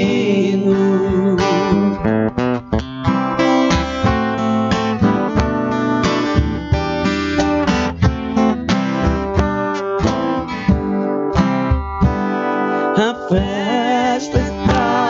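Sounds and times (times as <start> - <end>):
acoustic guitar strumming and picking: 0.0 - 15.0.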